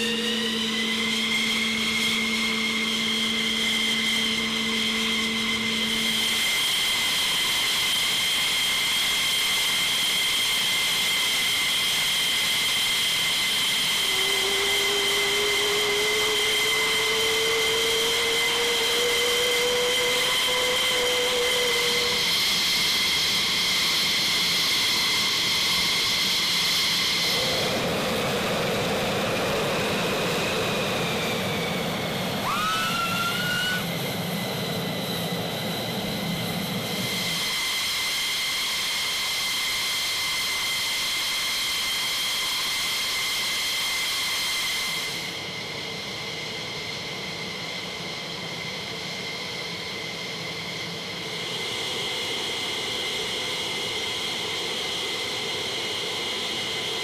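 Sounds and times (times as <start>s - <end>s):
jet turbine whine: 0.0s - 57.0s.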